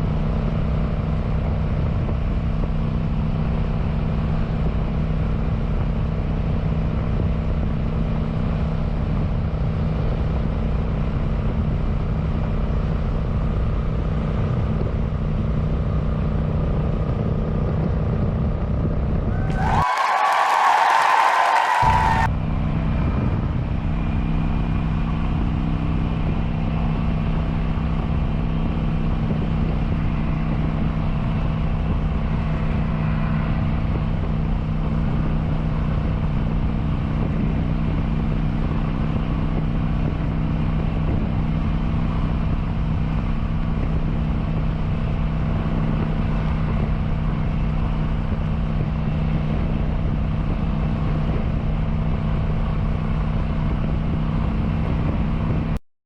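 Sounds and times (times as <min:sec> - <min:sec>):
motorcycle engine running steadily: 0:00.0 - 0:19.3, 0:22.3 - 0:55.8
wind and road noise: 0:00.0 - 0:55.8.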